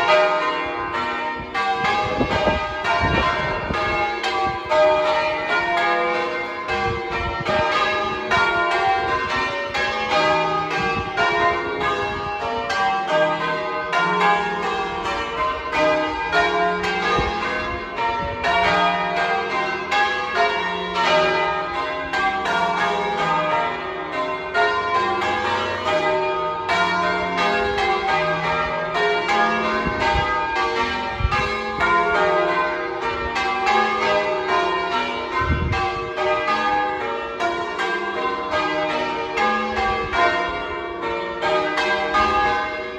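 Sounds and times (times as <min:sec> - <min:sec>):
church bells change-ringing: 0:00.0 - 0:42.9.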